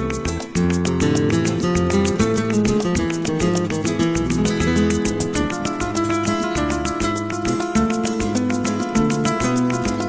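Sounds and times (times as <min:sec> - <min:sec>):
latin acoustic guitar music: 0:00.0 - 0:10.0.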